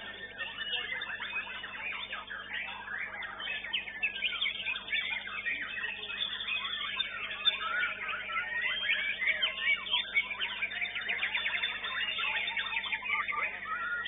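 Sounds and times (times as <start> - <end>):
songbirds chorus: 0.0 - 14.0.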